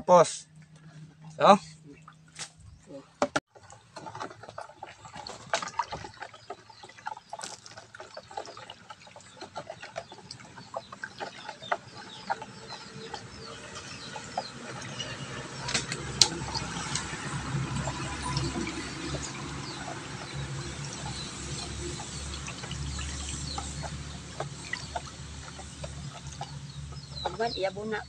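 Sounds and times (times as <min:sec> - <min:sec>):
wet sloshing: 0:00.6 - 0:28.0
spatula scraping plastic basin: 0:03.8 - 0:27.5.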